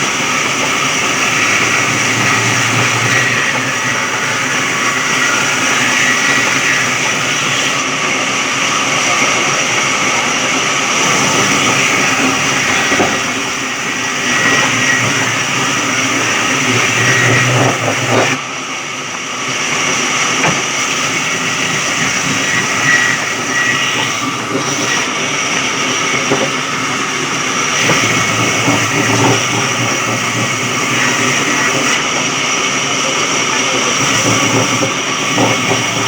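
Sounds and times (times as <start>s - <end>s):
sawmill mechanical din with whine: 0.0s - 36.0s.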